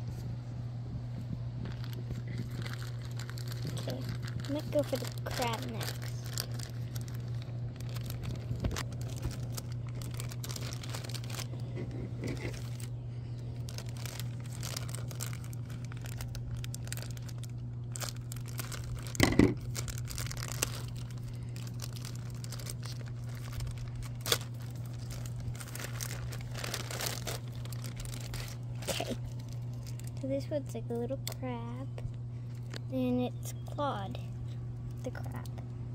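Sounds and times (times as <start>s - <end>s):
steady low hum: 0.0s - 35.9s
plastic packaging crinkling and tearing: 1.6s - 31.5s, 32.1s - 32.9s.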